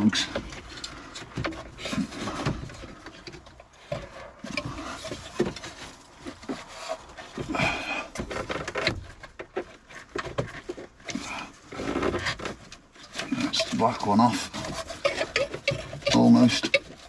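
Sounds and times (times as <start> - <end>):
plastic plugs clicking and scraping: 0.0 - 17.0.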